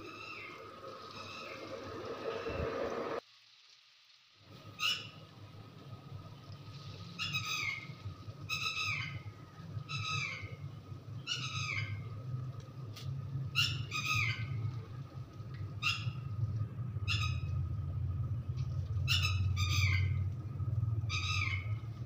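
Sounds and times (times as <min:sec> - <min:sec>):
steady low hum: 0:00.0 - 0:03.2, 0:05.2 - 0:22.0.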